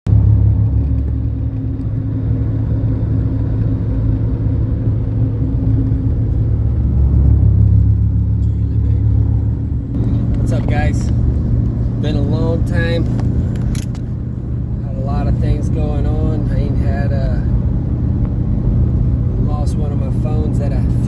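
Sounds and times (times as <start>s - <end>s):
vehicle engine and road drone: 0.0s - 21.0s.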